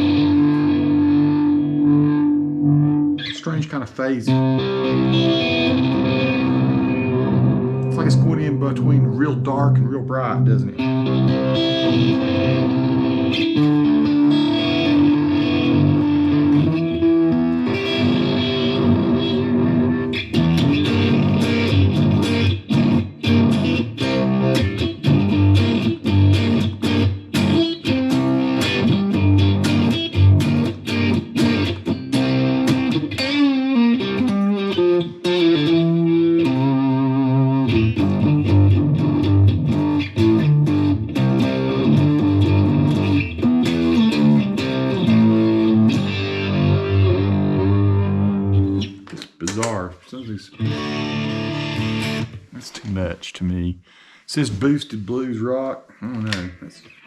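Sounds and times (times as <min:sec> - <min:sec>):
distorted electric guitar: 0:00.0 - 0:49.8, 0:50.5 - 0:52.6, 0:55.8 - 0:57.0.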